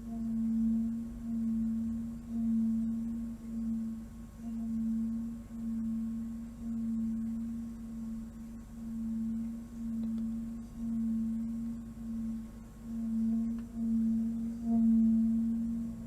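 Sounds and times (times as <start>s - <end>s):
low humming drone: 0.0s - 16.0s.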